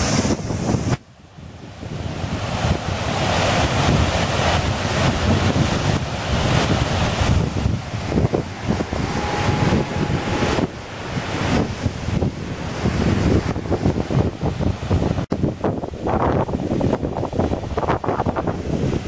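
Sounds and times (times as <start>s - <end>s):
water rushing over spillway: 0.0s - 19.0s
wind buffeting microphone: 0.0s - 19.0s.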